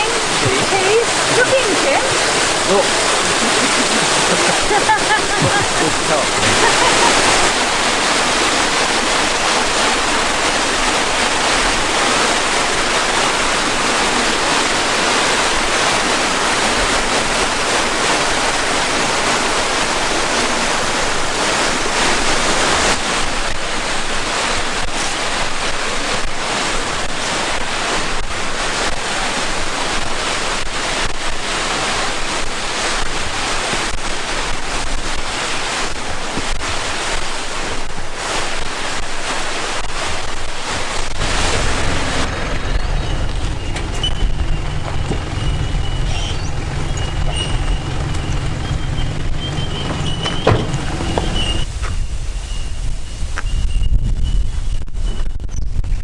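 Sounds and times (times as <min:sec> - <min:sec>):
waterfall and creek water rushing: 0:00.0 - 0:53.5
wind buffeting microphone: 0:00.0 - 0:56.0.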